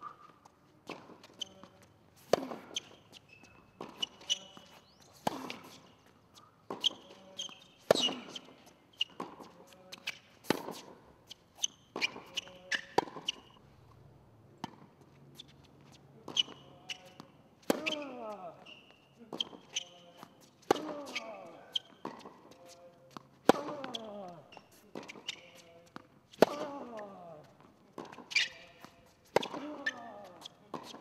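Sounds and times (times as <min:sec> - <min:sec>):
shoe squeaks: 0:00.0 - 0:13.6, 0:15.3 - 0:23.3, 0:23.9 - 0:26.1, 0:28.0 - 0:31.0
tennis ball hits and bounces: 0:00.4 - 0:13.6, 0:14.6 - 0:31.0.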